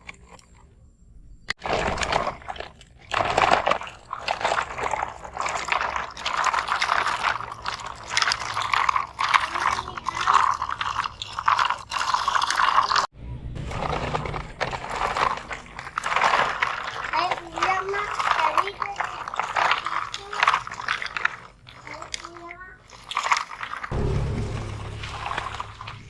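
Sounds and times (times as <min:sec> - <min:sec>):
sand crunching around toy trucks: 0:00.0 - 0:23.9.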